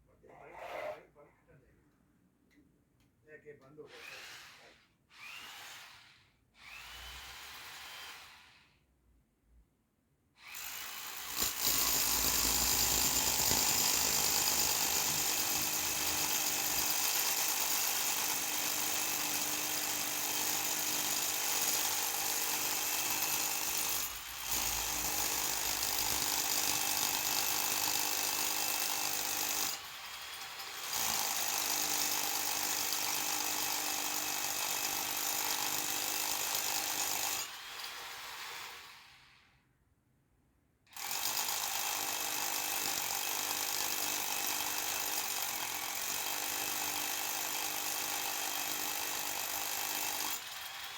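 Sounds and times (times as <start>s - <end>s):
electric drill boring into concrete: 3.9s - 8.8s, 10.4s - 39.5s, 40.9s - 50.9s.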